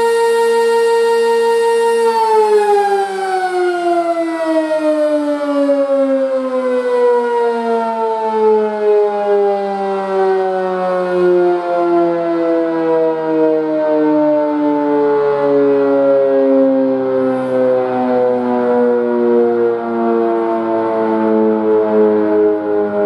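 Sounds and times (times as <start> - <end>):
warning siren winding down: 0.0 - 23.0.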